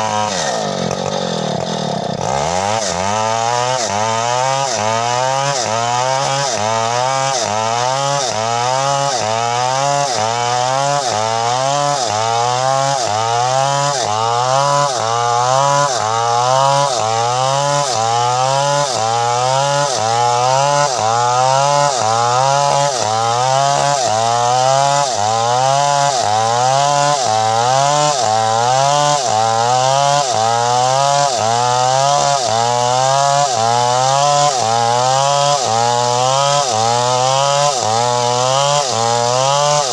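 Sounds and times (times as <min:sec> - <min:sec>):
two-stroke chainsaw engine running: 0:00.0 - 0:39.9.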